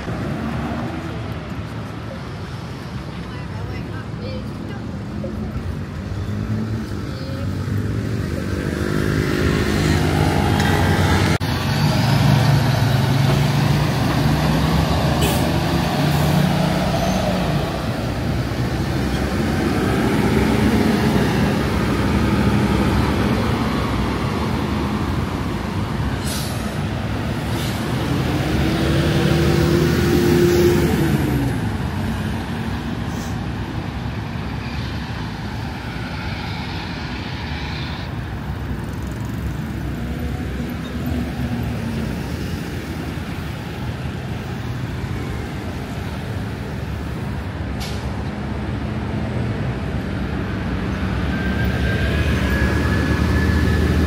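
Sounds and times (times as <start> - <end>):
motor vehicles passing by: 0.0 - 54.0.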